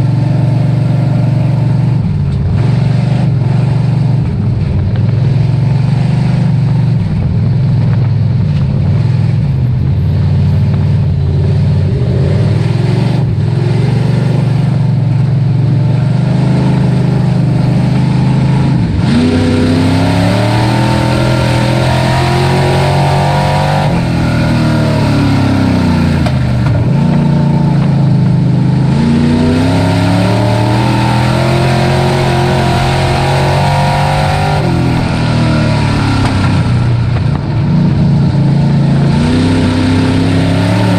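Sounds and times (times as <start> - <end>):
truck engine running hard: 0.0 - 40.9.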